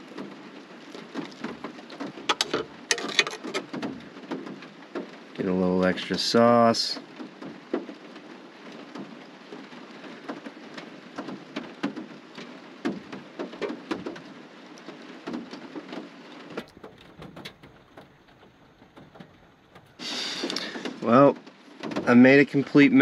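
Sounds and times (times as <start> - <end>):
rain pattering on a vehicle: 0.0 - 23.0.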